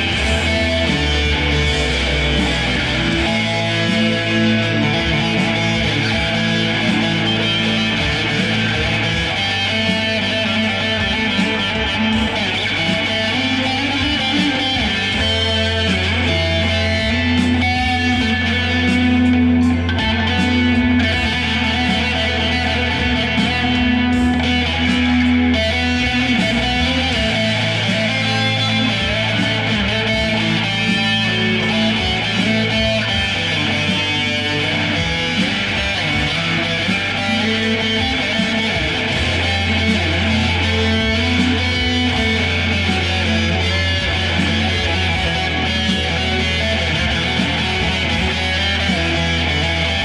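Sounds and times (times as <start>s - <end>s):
loud electric guitar: 0.0s - 50.0s.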